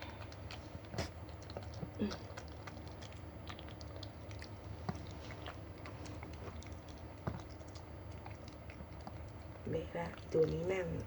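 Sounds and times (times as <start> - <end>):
dog licking puppy: 0.0 - 11.0
low steady hum: 0.0 - 11.0.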